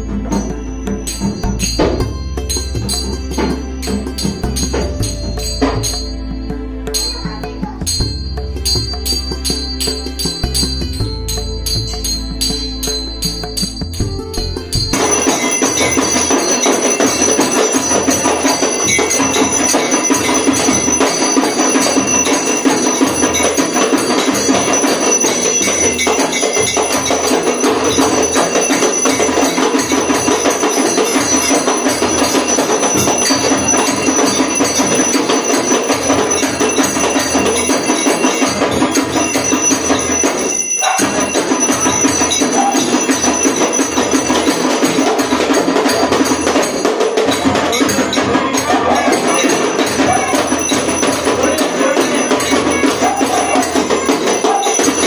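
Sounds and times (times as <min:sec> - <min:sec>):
hand bell ringing: 0:00.0 - 0:55.0
rhythmic hand-clapping: 0:00.0 - 0:55.0.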